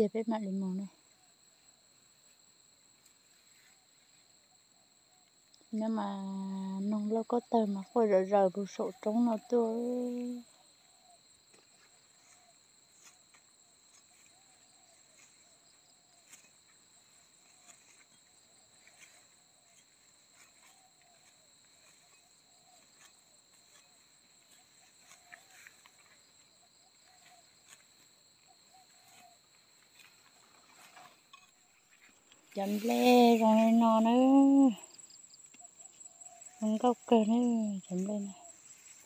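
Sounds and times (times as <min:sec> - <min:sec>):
insect trill: 0:00.0 - 0:39.0
faint ticks and rustles: 0:00.8 - 0:05.8, 0:08.2 - 0:39.0.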